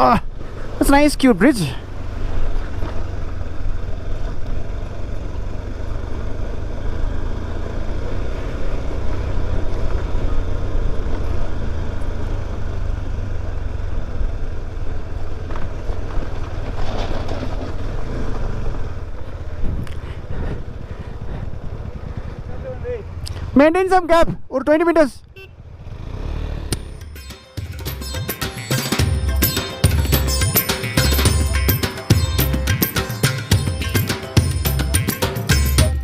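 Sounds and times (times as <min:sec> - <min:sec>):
motorcycle engine drone: 0:00.0 - 0:24.0, 0:25.2 - 0:36.0
road and wind noise: 0:00.0 - 0:35.9.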